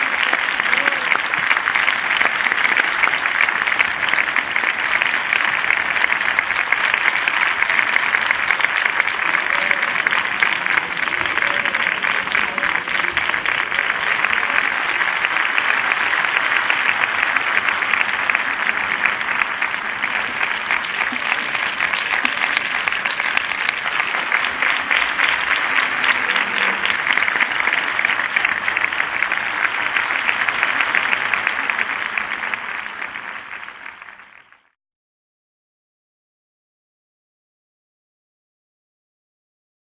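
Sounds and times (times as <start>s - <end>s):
audience applauding: 0.0s - 34.8s.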